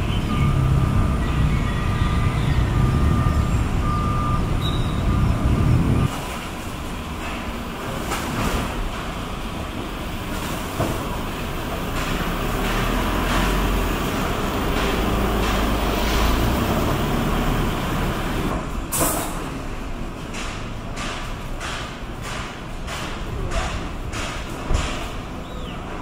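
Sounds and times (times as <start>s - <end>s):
road traffic hiss and rumble: 0.0s - 26.0s.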